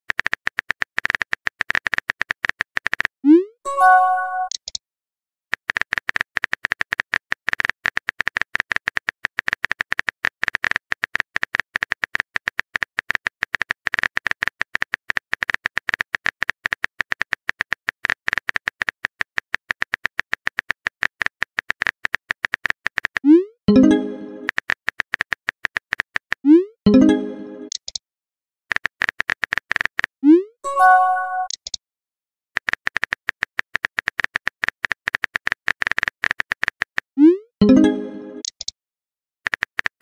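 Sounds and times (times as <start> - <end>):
keyboard typing clicks: 0.1 - 3.1, 3.7 - 4.8, 5.6 - 26.3, 26.9 - 28.0, 30.7 - 31.8, 32.6 - 38.8.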